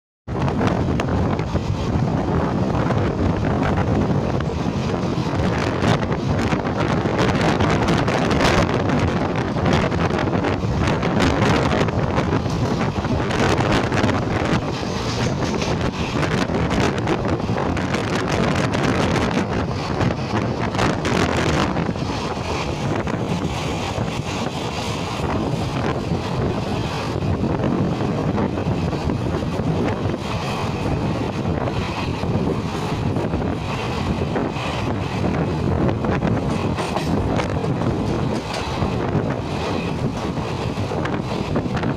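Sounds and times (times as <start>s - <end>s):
train clattering: 0.3s - 41.9s
train wheels rumbling on rails: 0.3s - 41.9s
wind buffeting microphone: 0.3s - 41.9s.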